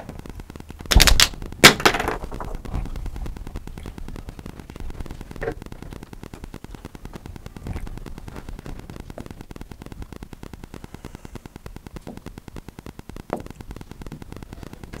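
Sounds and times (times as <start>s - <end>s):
static crackle: 0.0s - 15.0s.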